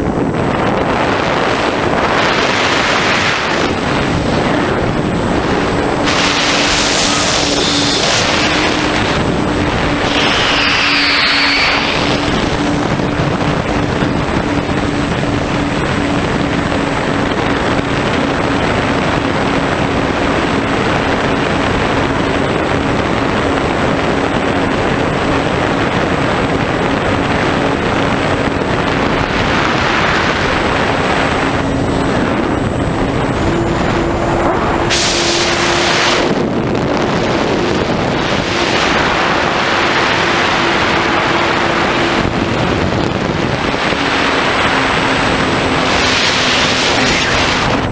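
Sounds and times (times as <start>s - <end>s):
electric motor and propeller hum: 0.0s - 47.9s
wind rush on microphone: 0.0s - 47.9s.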